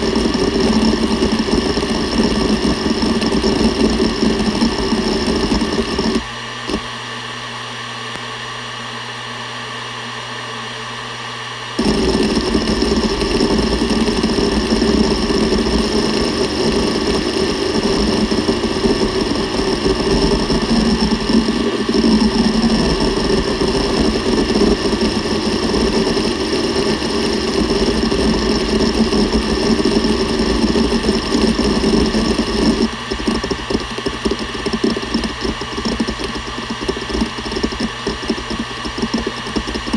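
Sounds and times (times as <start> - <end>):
hard drive head seeking chatter: 0.0 - 7.0, 11.8 - 39.9
hard drive spindle hum: 0.0 - 10.9, 11.7 - 39.9.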